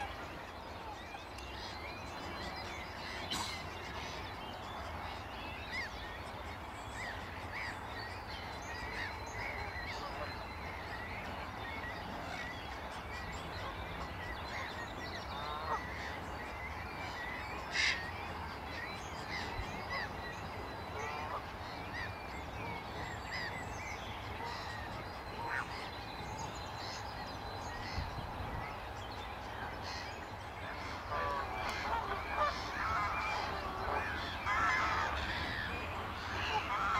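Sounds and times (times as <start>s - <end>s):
harsh bird calls: 0.0s - 36.9s.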